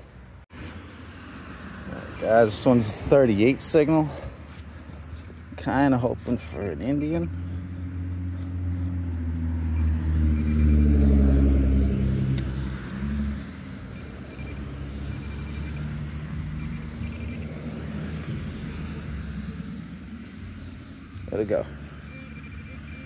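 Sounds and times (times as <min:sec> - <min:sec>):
vehicle engine running: 0:04.5 - 0:23.0.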